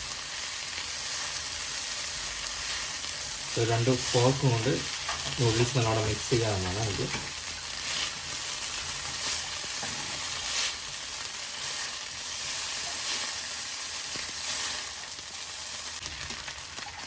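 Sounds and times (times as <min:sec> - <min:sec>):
noodles sizzling in a hot pan: 0:00.0 - 0:17.0.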